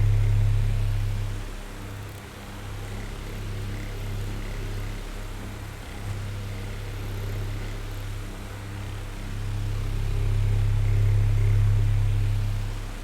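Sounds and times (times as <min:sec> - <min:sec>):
electric fan motor hum and whir: 0:00.0 - 0:13.0.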